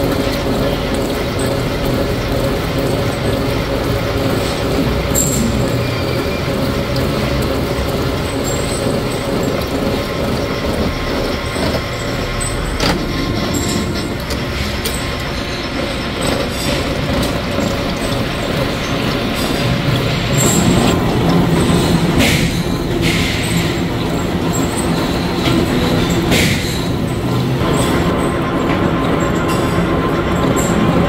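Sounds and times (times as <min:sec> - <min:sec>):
gear cutting machine drone: 0:00.0 - 0:31.0.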